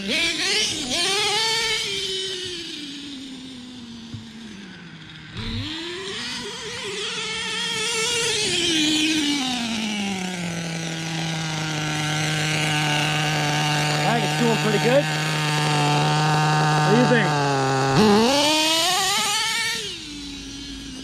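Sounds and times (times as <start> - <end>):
small nitro engine revving and idling: 0.0 - 21.0.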